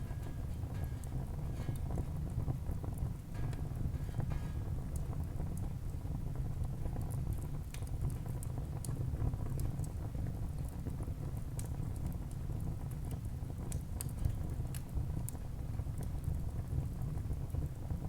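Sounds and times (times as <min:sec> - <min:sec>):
low rumble of burning fire: 0:00.0 - 0:18.0
wood fire crackling: 0:00.0 - 0:18.0.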